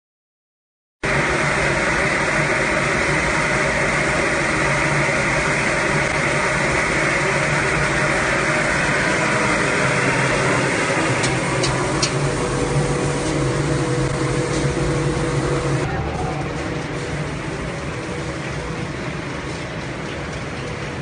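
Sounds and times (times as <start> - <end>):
loud steady machine noise: 1.0 - 21.0.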